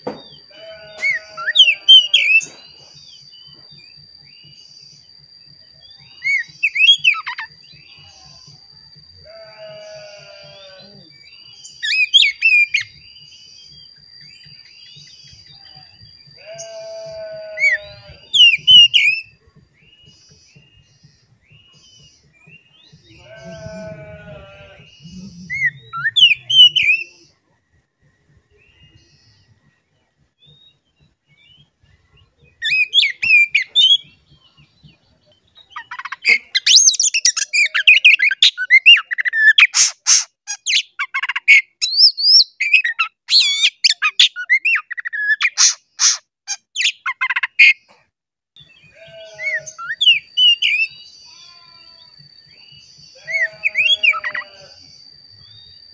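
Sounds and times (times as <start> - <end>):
bird singing whistles and chirps: 0.0 - 27.4, 28.1 - 46.2, 48.6 - 55.9.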